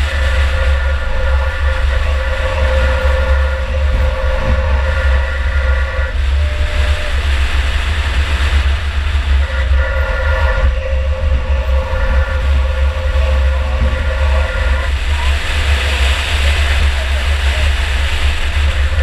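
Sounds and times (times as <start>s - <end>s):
steady whine: 0.0s - 19.0s.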